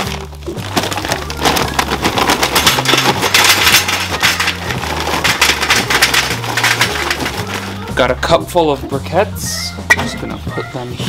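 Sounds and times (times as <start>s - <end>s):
charcoal clattering into metal can: 0.0s - 8.8s, 9.8s - 10.3s.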